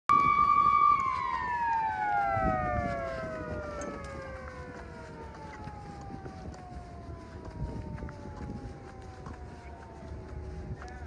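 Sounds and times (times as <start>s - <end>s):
alarm siren winding down: 0.1s - 11.0s.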